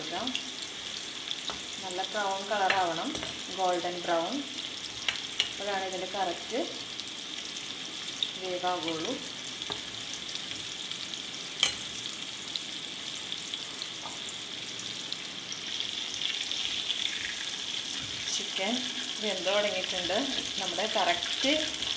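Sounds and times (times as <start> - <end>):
chicken deep-frying in oil: 0.0 - 21.9.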